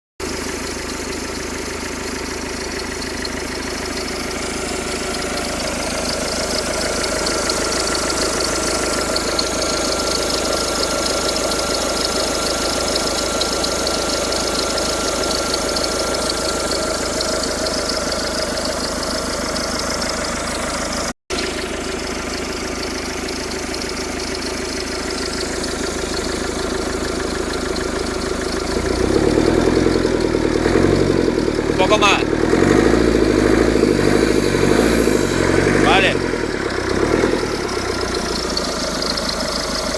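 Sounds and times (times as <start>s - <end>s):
car engine running: 0.2s - 39.9s.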